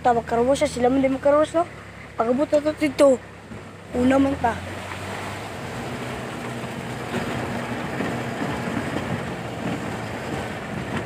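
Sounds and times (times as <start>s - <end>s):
diesel engine running: 0.0s - 11.0s
road and tyre noise: 0.0s - 11.0s.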